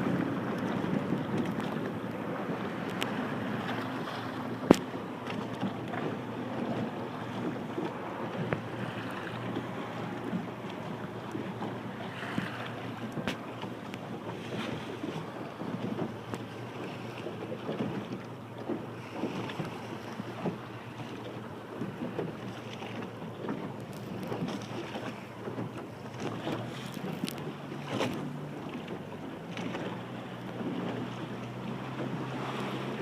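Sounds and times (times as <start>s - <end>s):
water rushing along hull: 0.0s - 33.0s
water splashing against hull: 0.0s - 33.0s.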